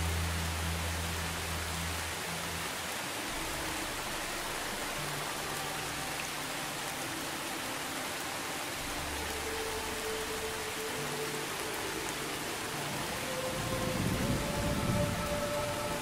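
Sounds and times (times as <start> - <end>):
rain falling on leaves: 0.0 - 16.0.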